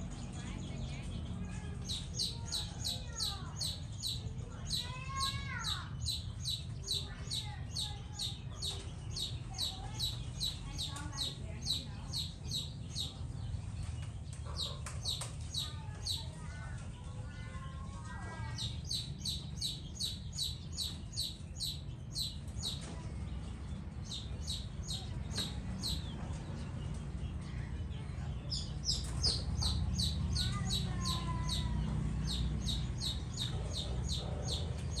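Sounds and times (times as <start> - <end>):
small bird chirping: 0.0 - 27.4, 28.2 - 35.0.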